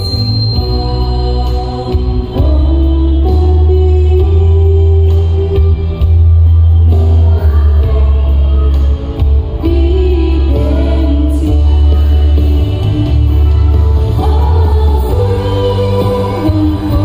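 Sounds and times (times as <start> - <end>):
woman singing into microphone: 0.0 - 6.1, 7.0 - 17.0
accompaniment with strong bass: 0.0 - 17.0.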